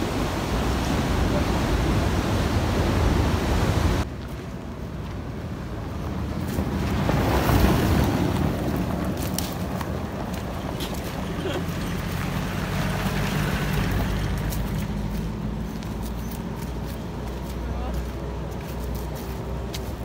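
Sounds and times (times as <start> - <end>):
outdoor wind rush: 0.0 - 20.0.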